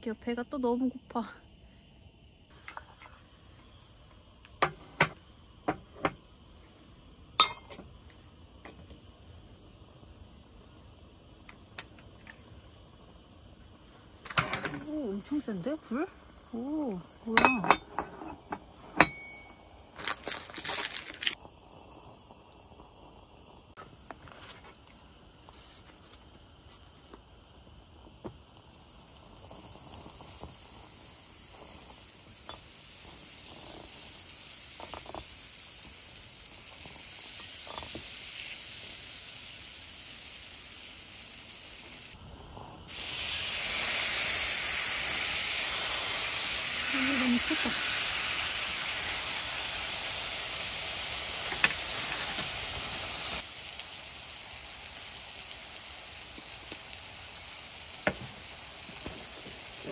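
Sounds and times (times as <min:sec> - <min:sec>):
beef sizzling on a grill: 0:00.0 - 0:59.9.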